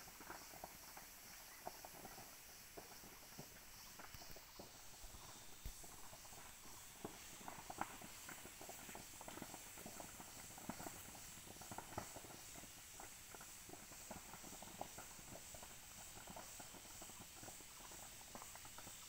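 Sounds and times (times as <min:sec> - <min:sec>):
faint high hiss: 0:00.0 - 0:19.0
fire crackling and popping: 0:00.0 - 0:19.0.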